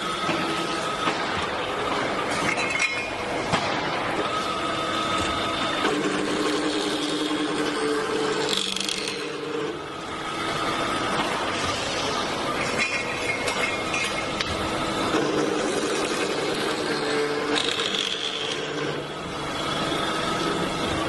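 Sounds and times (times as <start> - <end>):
pipe cutting machine running: 0.0 - 21.0.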